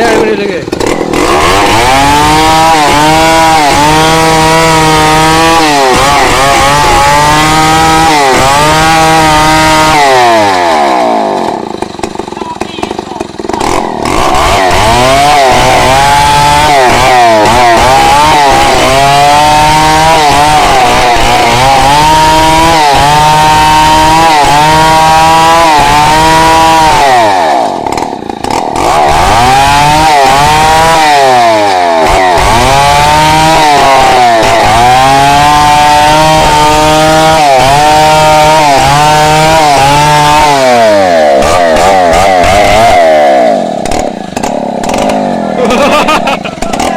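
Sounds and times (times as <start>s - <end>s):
chainsaw cutting log: 0.0s - 46.9s.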